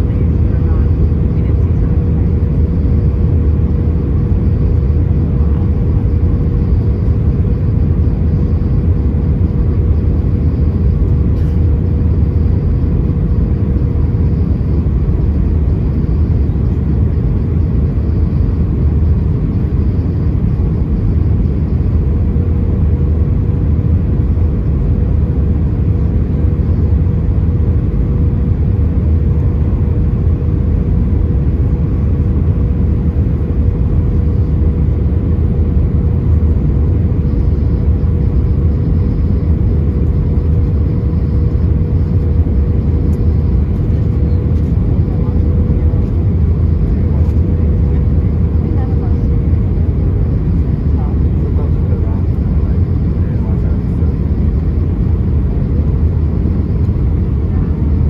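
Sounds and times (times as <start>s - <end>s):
airplane cabin engine rumble: 0.0s - 58.0s
mid-pitched cabin hum: 0.0s - 58.0s.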